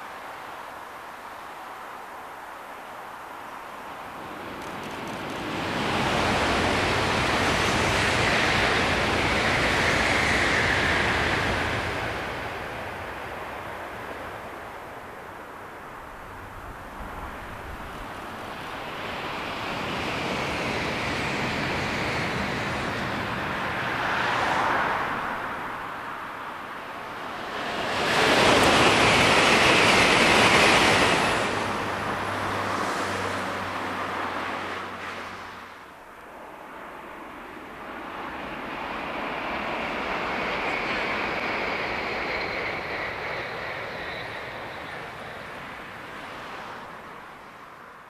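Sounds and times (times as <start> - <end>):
high-speed train passing: 0.0 - 48.0
train approaching: 3.7 - 48.0.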